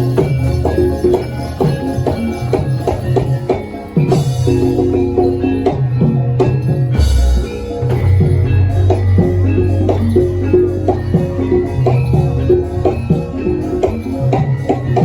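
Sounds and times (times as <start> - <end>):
drums and tuned gongs playing: 0.0 - 15.0.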